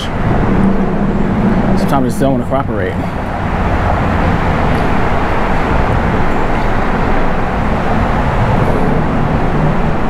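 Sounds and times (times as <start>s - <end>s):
rumble of road traffic overhead: 0.0s - 10.0s.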